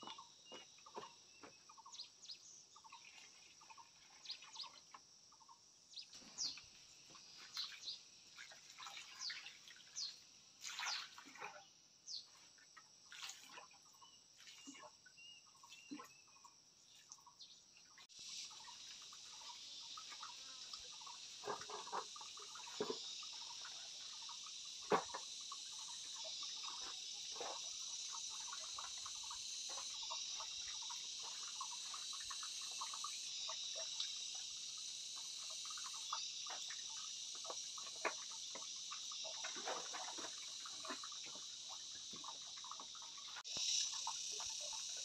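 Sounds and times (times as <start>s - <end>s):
chorus of insects: 0.0s - 45.0s.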